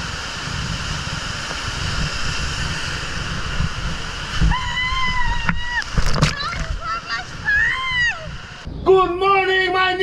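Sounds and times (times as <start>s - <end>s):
water rushing: 0.0s - 8.8s
wind buffeting microphone: 0.0s - 10.0s.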